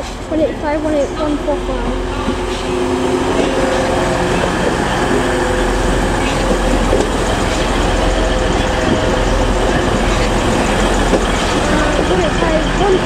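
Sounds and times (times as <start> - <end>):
diesel train engines: 0.0 - 13.0
wheels rumbling on rail: 0.0 - 13.0.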